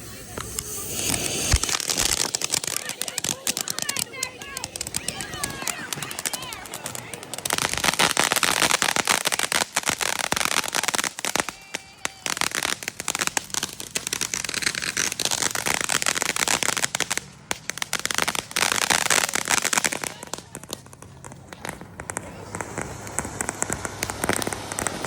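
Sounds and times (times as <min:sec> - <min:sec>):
fireworks crackling: 0:00.0 - 0:25.0.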